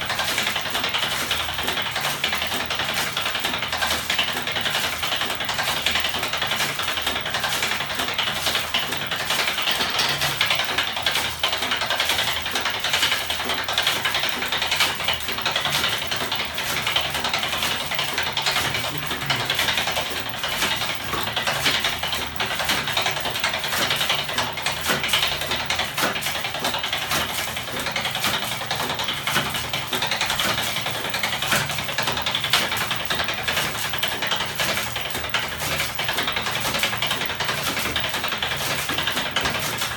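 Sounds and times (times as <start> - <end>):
motor mechanism whirring and clattering: 0.0 - 39.9.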